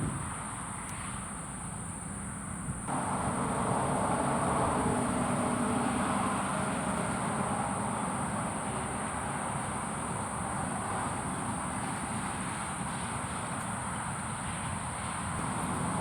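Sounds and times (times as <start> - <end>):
low rumble of traffic: 0.0 - 16.0
high-pitched insect chorus: 0.2 - 16.0.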